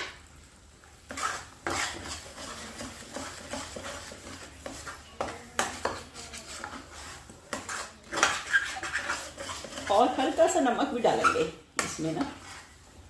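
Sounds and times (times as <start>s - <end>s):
utensil scraping thick paste in pan: 1.0s - 13.0s.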